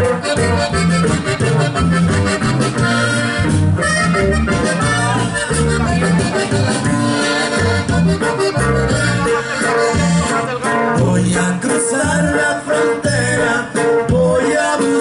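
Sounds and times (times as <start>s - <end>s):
button accordion: 0.0s - 15.0s
drums: 0.0s - 15.0s
electric bass: 0.0s - 15.0s
guitar: 0.0s - 15.0s.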